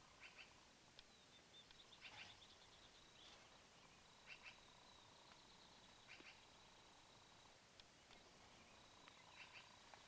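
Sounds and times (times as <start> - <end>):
faint steady high whine: 0.0 - 10.0
faint bird chirps: 0.1 - 10.0.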